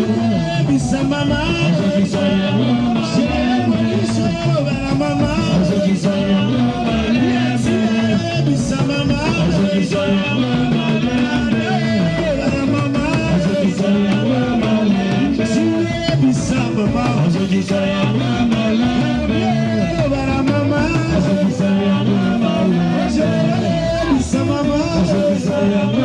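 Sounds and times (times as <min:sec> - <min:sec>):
band with drums and guitar: 0:00.0 - 0:26.0
singers singing together: 0:00.0 - 0:26.0.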